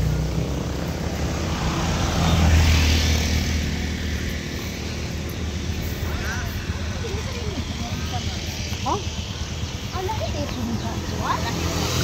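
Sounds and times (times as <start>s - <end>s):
motorcycle passing: 0.0s - 12.0s.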